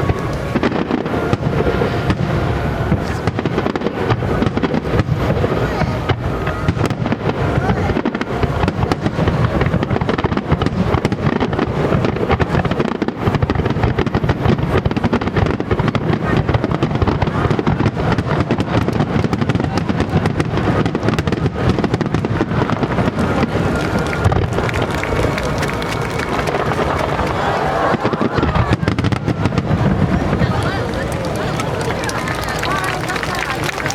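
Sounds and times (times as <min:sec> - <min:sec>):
fireworks bursting: 0:00.0 - 0:33.9
fireworks crackling: 0:00.0 - 0:33.9.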